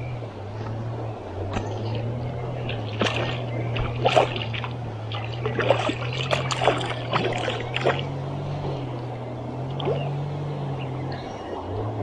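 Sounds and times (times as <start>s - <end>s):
river water splashing and gurgling: 0.0s - 12.0s
steady low rumble: 0.0s - 12.0s.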